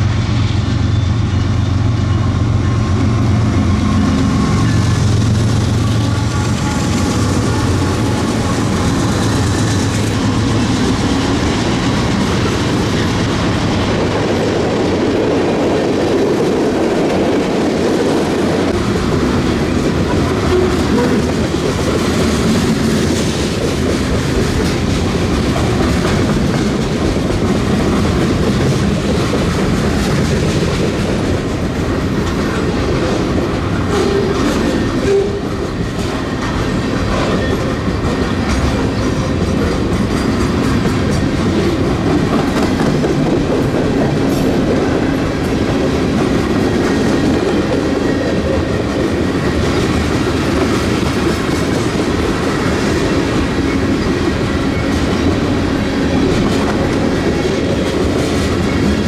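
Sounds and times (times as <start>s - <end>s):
freight train wheels clacking: 0.0s - 59.0s.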